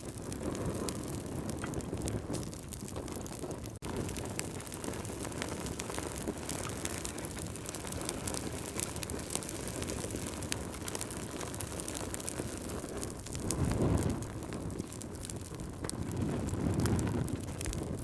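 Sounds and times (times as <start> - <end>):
low rush of flame: 0.0 - 18.0
wood fire crackling: 0.0 - 18.0.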